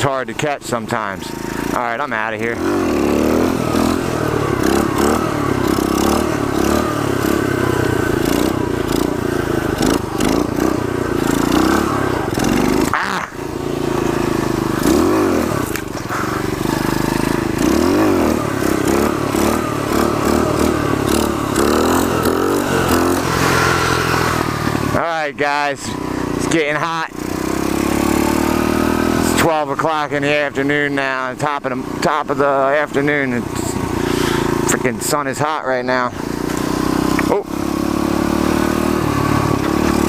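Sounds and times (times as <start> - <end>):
motorbike engine revving: 0.0 - 40.0.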